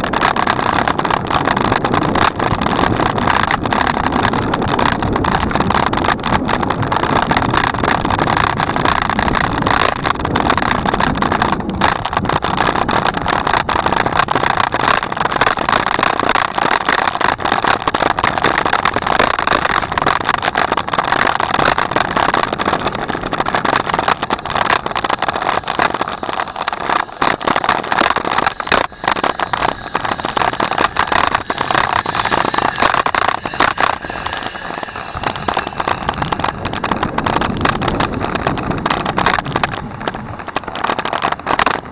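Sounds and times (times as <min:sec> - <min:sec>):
bicycle tyre noise: 0:00.0 - 0:41.9
fine rattling and crackling: 0:00.0 - 0:41.9
rushing wind: 0:00.0 - 0:41.9.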